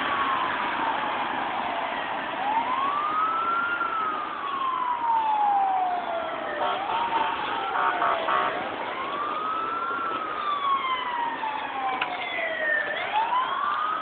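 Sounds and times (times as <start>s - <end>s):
emergency vehicle siren wailing: 0.0s - 14.0s.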